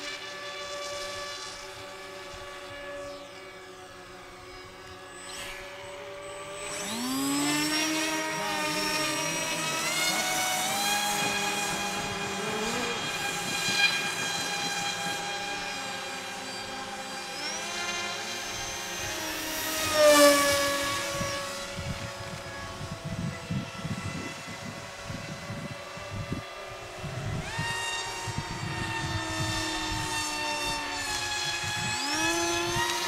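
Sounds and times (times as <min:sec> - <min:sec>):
model propeller motor whining: 0:00.0 - 0:33.0.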